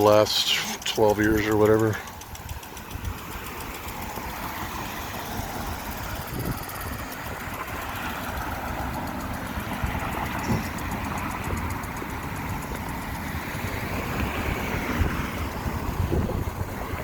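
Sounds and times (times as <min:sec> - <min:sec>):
sprinklers spraying water: 0:00.0 - 0:17.0.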